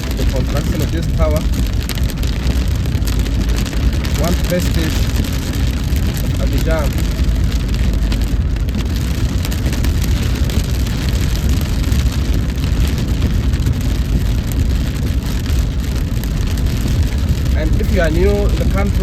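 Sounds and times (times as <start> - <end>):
car engine and road rumble: 0.0 - 19.0
rain and wet tyres hissing: 0.0 - 19.0.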